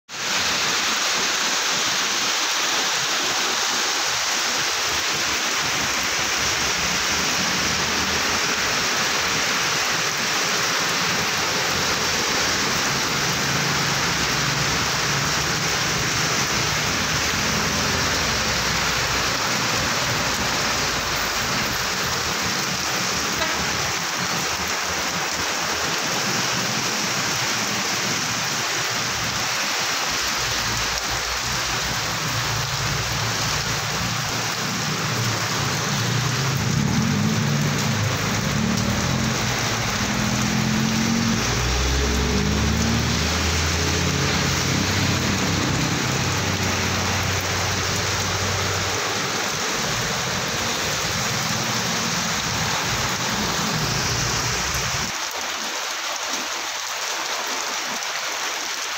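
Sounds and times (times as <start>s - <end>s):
heavy rain on road: 0.1s - 58.9s
vehicles driving through water: 0.2s - 58.9s.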